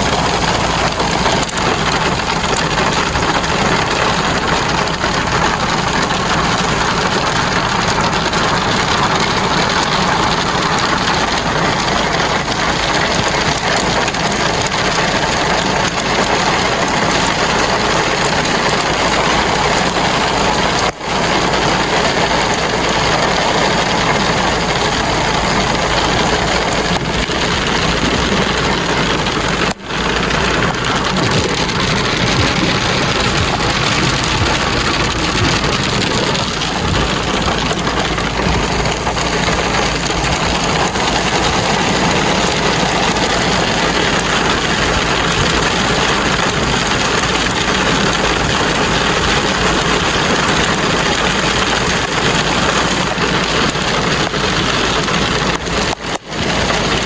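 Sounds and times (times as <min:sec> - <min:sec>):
heavy rain on a vehicle: 0:00.0 - 0:57.0
low engine rumble: 0:00.0 - 0:57.0.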